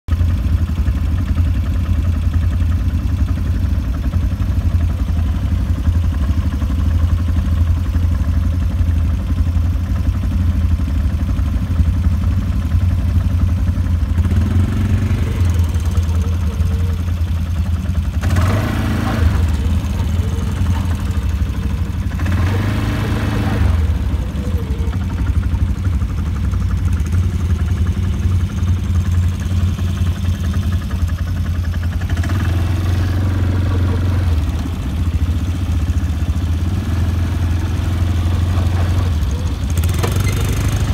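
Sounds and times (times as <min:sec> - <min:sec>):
quad bike engine idling: 0:00.1 - 0:40.9.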